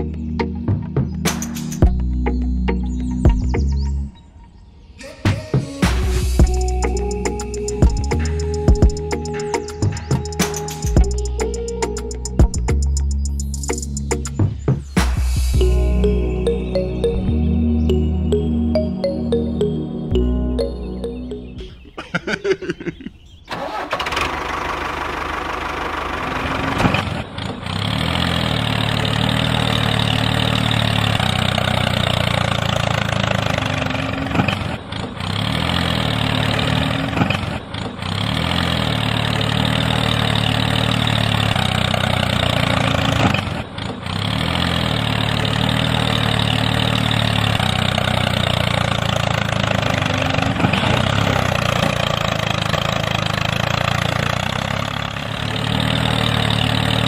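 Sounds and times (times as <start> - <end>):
tractor engine running: 5.8 - 57.0.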